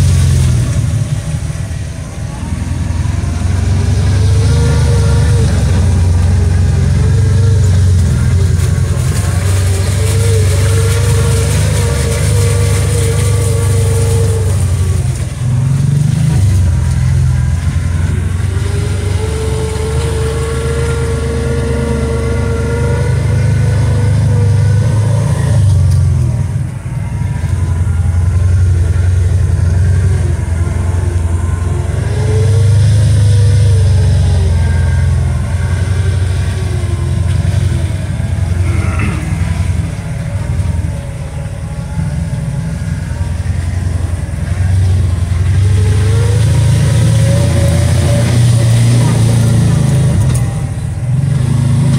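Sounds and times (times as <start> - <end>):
utility vehicle engine whine: 0.0 - 51.9.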